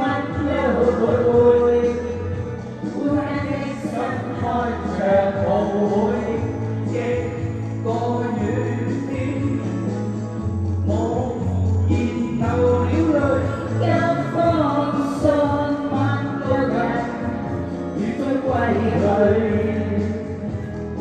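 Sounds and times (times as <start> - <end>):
pop music with bass line: 0.0 - 21.0.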